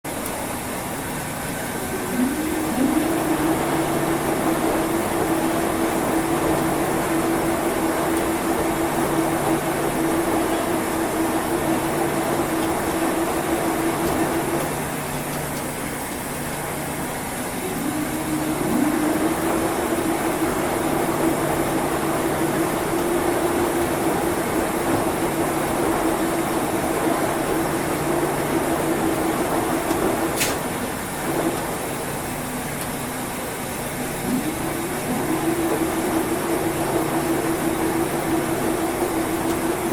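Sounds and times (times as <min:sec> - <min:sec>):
washing machine motor hum: 0:00.0 - 0:39.9
low pulsing hum: 0:00.9 - 0:15.4, 0:16.3 - 0:30.4, 0:33.8 - 0:39.9.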